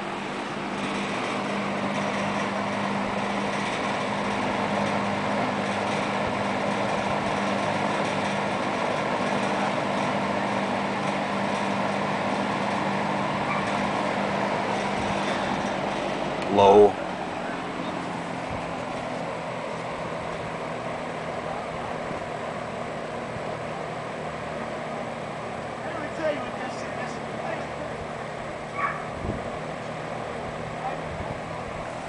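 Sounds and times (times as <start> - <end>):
fan air rush: 0.0 - 32.0
low motor hum: 0.0 - 32.0.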